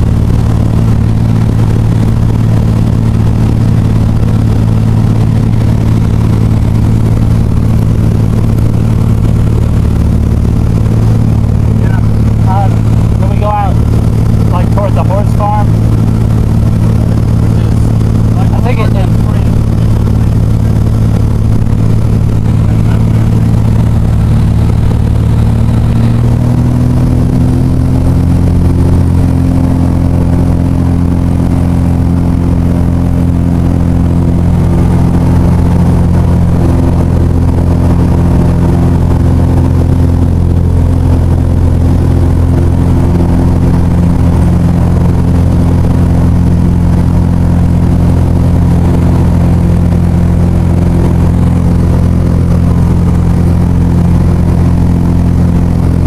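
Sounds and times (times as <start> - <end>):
small aircraft engine running: 0.0 - 56.0.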